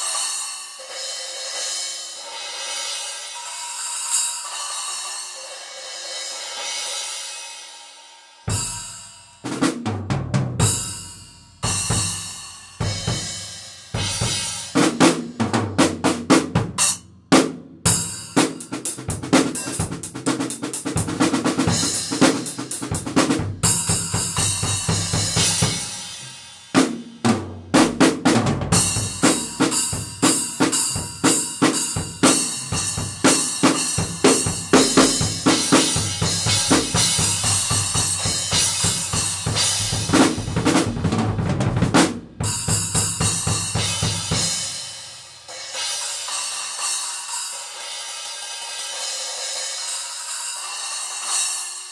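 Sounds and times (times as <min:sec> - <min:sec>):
drum kit playing: 0:00.0 - 0:07.7, 0:08.5 - 0:51.9.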